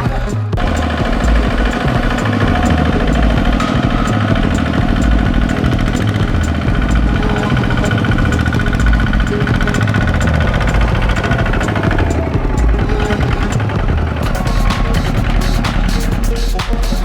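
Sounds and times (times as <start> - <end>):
background music with beat: 0.0 - 17.0
tractor engine knocking: 0.0 - 17.0.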